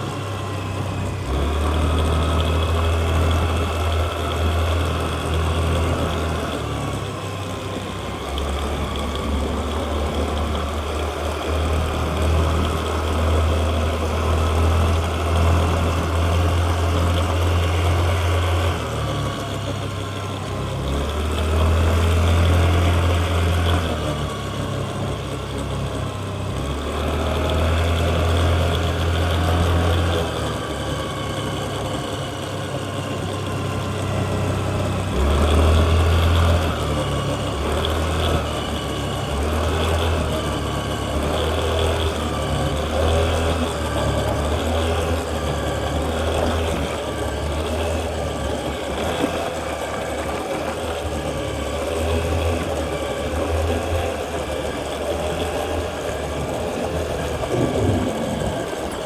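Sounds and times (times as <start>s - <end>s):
scooter engine idling: 0.0s - 59.0s.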